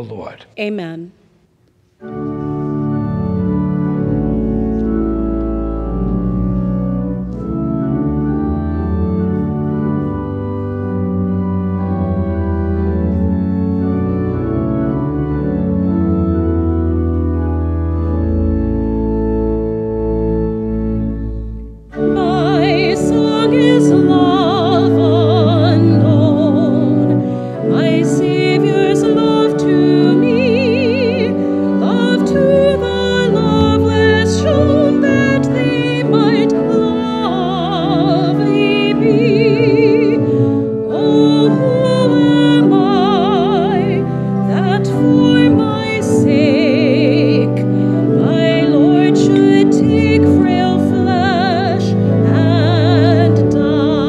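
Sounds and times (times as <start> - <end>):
church organ playing held chords: 1.9 - 54.0.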